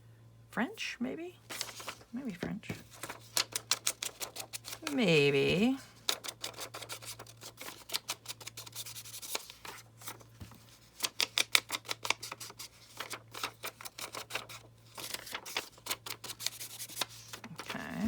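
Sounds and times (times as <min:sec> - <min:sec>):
paper crackling and rustling: 0:01.5 - 0:18.0.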